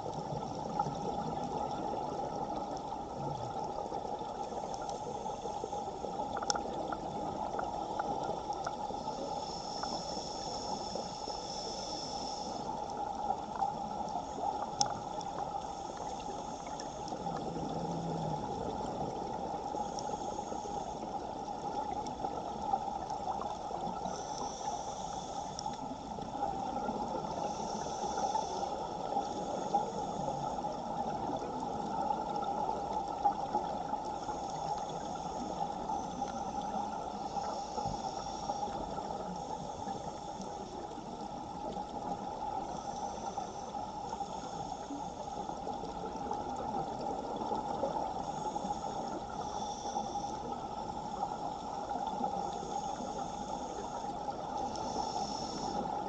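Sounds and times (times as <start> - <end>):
underwater rush of water: 0.0 - 56.0
faint clicks: 0.1 - 56.0.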